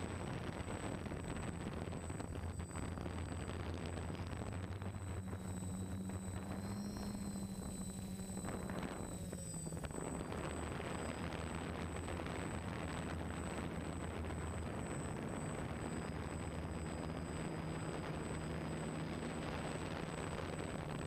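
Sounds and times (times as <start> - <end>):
small aircraft engine hum: 0.0 - 21.0.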